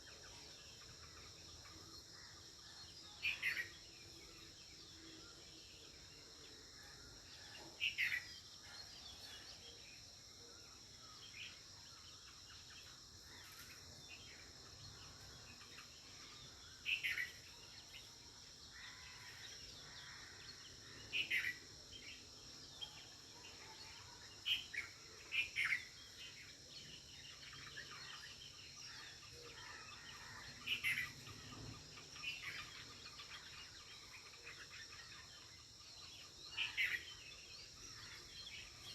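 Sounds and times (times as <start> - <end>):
birds chirping: 0.0 - 38.9
insects droning: 0.0 - 38.9.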